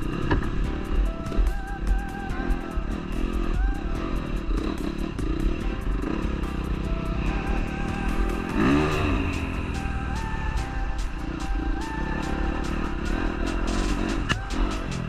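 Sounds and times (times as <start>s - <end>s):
background music: 0.0s - 15.0s
dirt bike engine revving: 0.0s - 15.0s.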